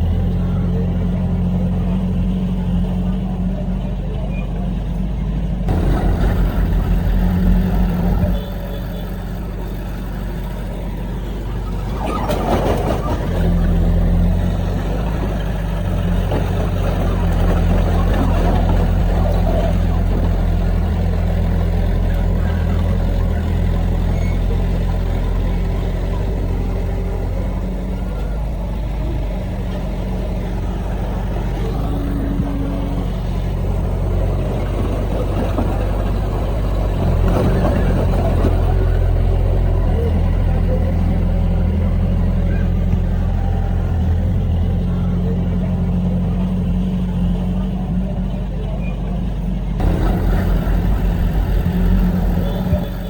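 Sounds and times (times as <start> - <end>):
heavy diesel machinery engine: 0.0 - 53.0.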